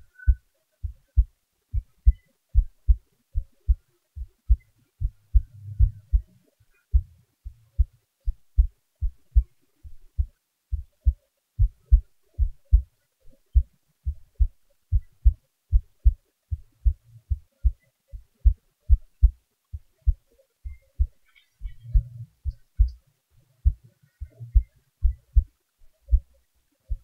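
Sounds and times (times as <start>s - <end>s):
heartbeat thumps: 0.0s - 27.0s.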